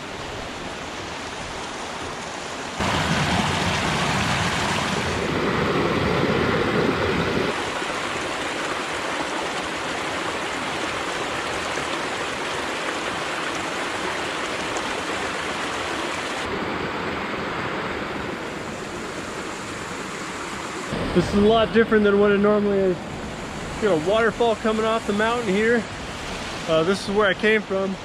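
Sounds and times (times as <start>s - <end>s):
water rushing down a wash: 0.0s - 28.0s.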